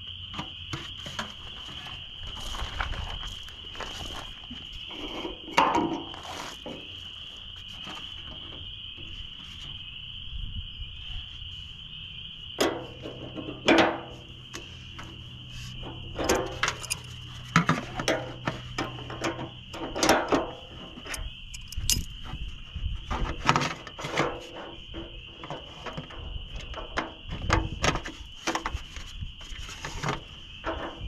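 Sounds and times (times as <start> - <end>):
high drone of insects: 0.0 - 31.0.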